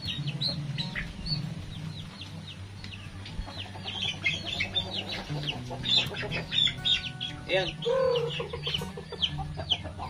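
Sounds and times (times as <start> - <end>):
chicks peeping and clucking: 0.0 - 10.0.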